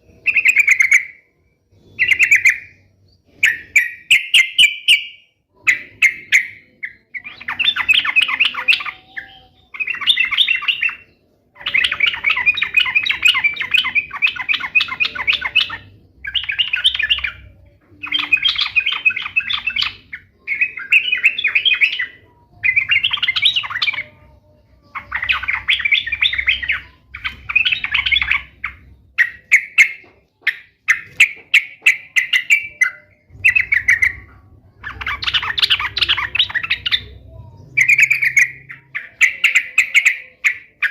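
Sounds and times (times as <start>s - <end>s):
bird singing chattering notes: 0.0s - 40.9s.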